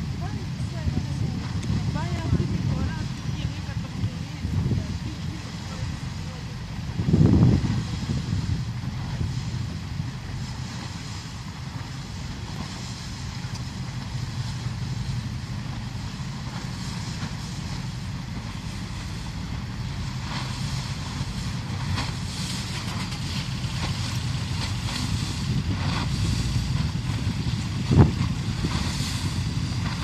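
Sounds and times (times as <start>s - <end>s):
ferry diesel engines rumbling: 0.0s - 30.0s
wind noise on microphone: 0.0s - 30.0s.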